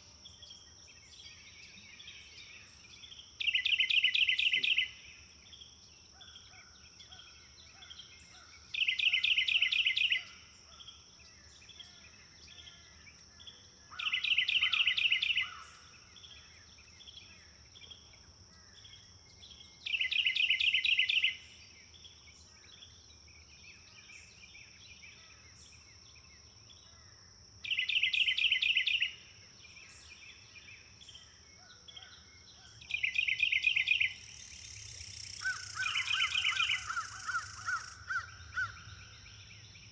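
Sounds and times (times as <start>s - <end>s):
birds chirping softly: 0.0s - 39.9s.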